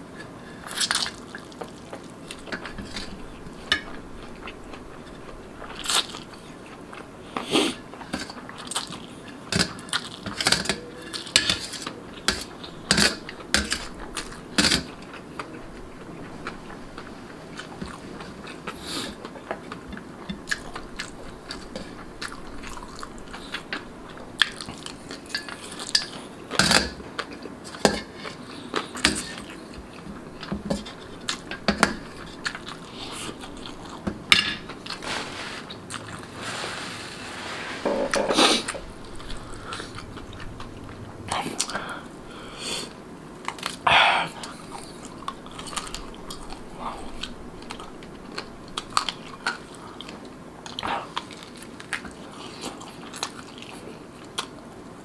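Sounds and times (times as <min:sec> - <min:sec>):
noodles slurped and chewed: 0:00.0 - 0:37.6, 0:38.4 - 0:43.8, 0:44.4 - 0:54.6.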